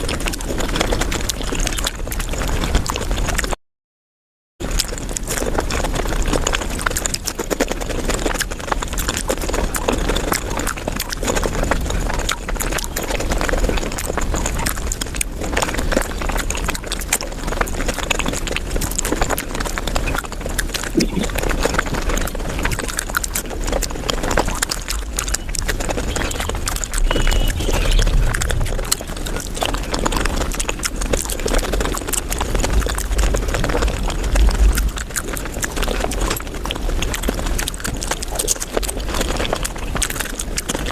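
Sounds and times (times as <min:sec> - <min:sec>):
rapid crunching and chewing: 0:00.0 - 0:03.6, 0:04.6 - 0:40.9.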